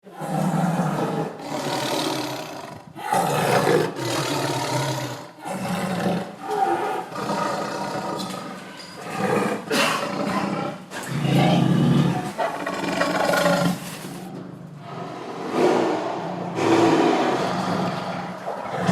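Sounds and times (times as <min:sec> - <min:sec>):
tiger roaring and growling: 0:00.0 - 0:18.9.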